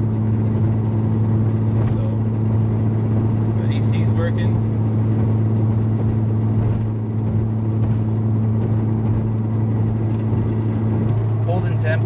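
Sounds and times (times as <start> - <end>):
car engine droning: 0.0 - 12.0
road noise inside car: 0.0 - 12.0.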